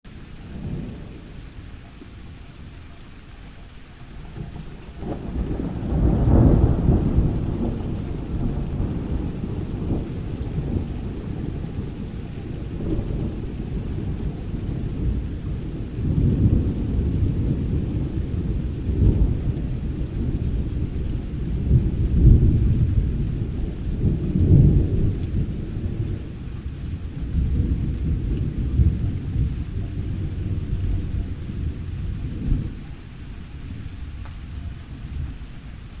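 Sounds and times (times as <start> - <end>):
thunder rumbling: 0.1 - 36.0.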